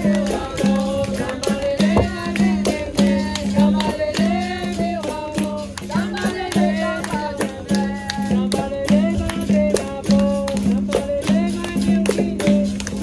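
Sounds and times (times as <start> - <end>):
hand percussion strikes: 0.0 - 13.0
shaker rattle: 0.0 - 13.0
voices singing call-and-response: 0.0 - 13.0.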